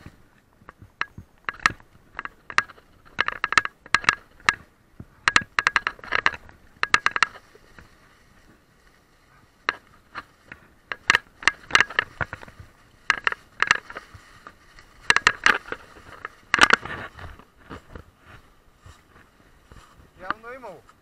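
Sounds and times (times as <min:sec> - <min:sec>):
mountain bike rattling over bumps: 0:00.0 - 0:08.6, 0:09.6 - 0:18.4.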